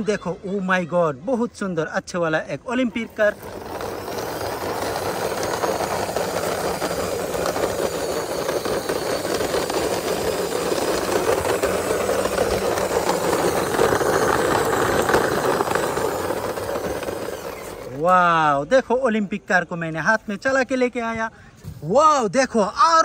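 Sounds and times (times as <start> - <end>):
toy car wheels rolling on concrete: 0.0 - 21.2.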